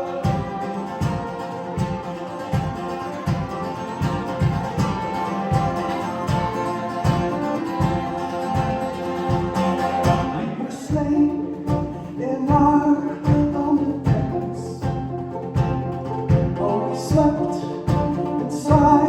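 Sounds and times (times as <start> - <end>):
band playing instrumental: 0.0 - 19.0
guitar: 0.0 - 19.0
low drum beat thumps: 0.0 - 19.0.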